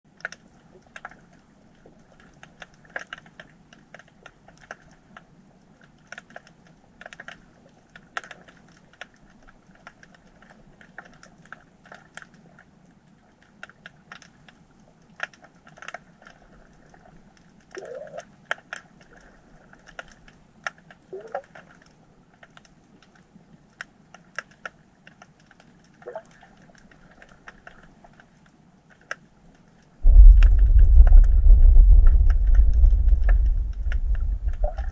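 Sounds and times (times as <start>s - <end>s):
low steady underwater hum: 0.1s - 34.9s
underwater clicks and crackles: 0.1s - 34.9s.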